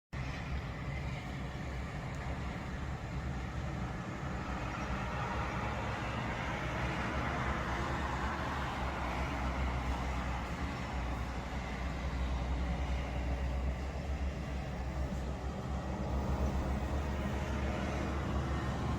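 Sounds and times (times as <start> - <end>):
engine rumble: 0.1 - 18.9
vehicle passing: 1.0 - 18.9.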